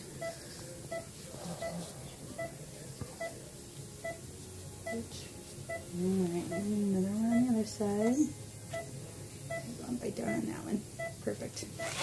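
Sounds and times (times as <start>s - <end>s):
patient monitor beeps: 0.0s - 5.1s, 5.7s - 12.0s.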